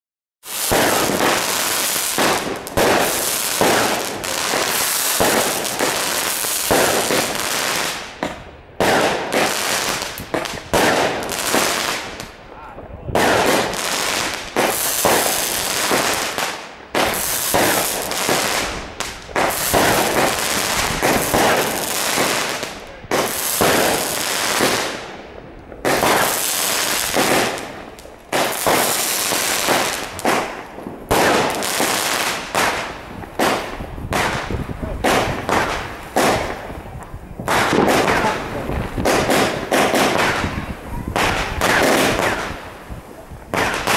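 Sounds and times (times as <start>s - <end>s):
fireworks crackling and popping: 0.4s - 43.9s.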